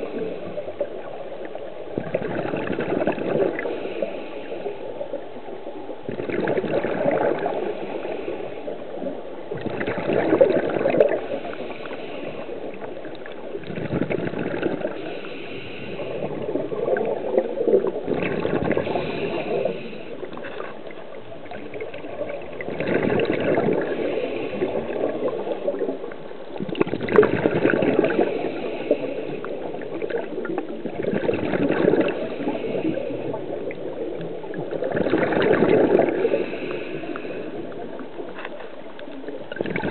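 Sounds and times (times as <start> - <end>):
underwater river gurgling: 0.0 - 39.9.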